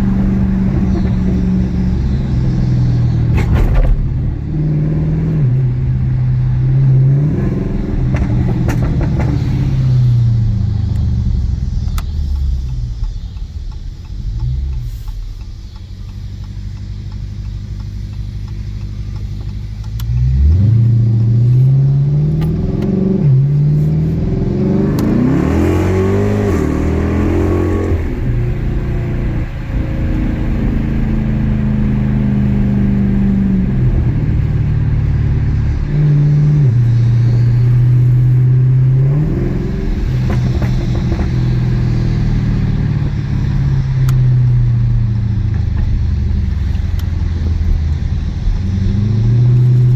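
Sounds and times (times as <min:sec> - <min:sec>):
car engine exhaust accelerating: 0:00.0 - 0:49.9.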